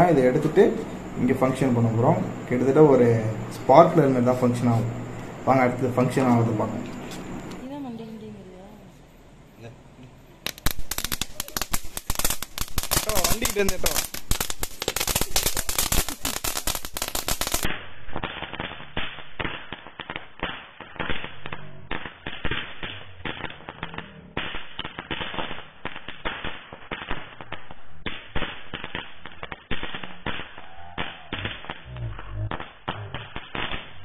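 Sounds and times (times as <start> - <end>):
firework crackling with rapid pops: 0.0 - 7.6, 10.4 - 34.0.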